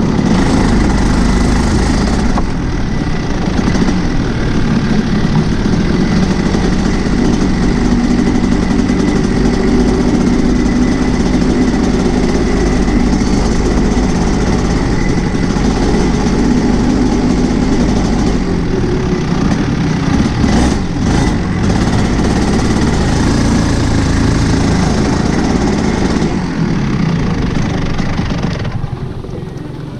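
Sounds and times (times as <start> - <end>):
kart two-stroke engine running: 0.0 - 29.9.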